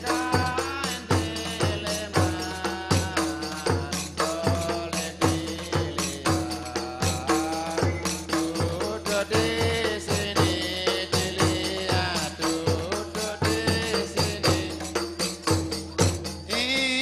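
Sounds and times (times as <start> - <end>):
frame drums beating: 0.0 - 17.0.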